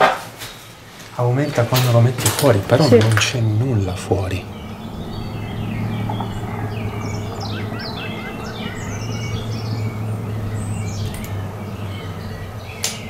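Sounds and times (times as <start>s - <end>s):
songbirds chirping and singing: 0.4s - 13.0s
steady low hum: 0.6s - 13.0s.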